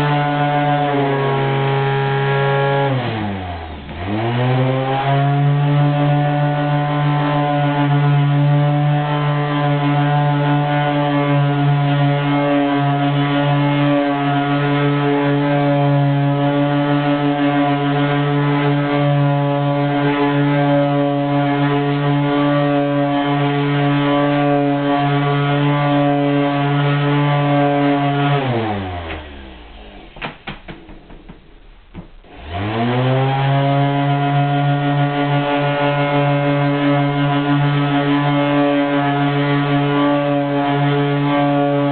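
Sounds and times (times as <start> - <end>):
orbital sander running: 0.0 - 41.9.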